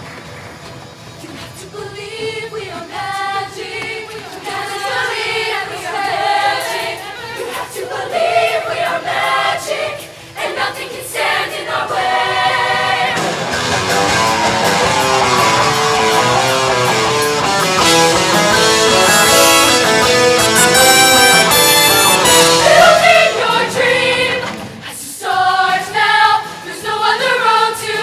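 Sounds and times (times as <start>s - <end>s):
choir singing in harmony: 0.2s - 28.0s.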